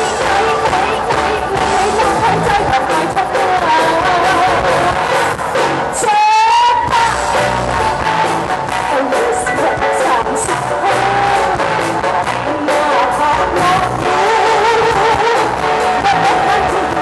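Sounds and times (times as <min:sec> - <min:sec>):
live rock band playing: 0:00.0 - 0:17.0
woman singing into microphone: 0:00.0 - 0:17.0.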